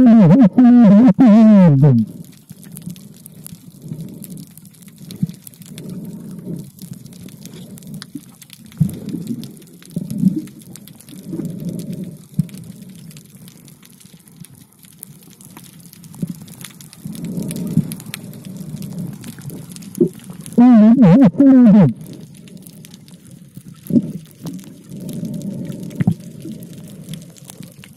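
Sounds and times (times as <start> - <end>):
underwater sloshing and bubbling: 0.0 - 27.9
sharp underwater clicks: 2.0 - 20.6, 21.9 - 27.9.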